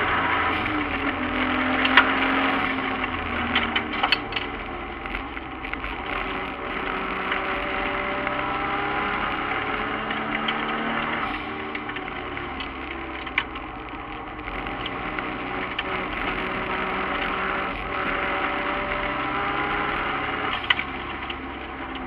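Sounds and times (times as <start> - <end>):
race car engine under load: 0.0 - 22.0.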